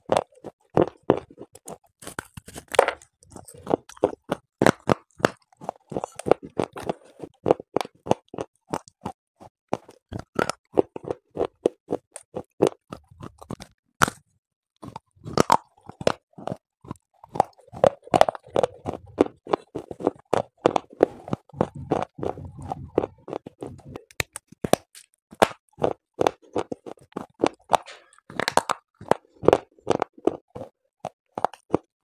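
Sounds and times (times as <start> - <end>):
clay pot crunching when chewed: 0.0 - 32.0.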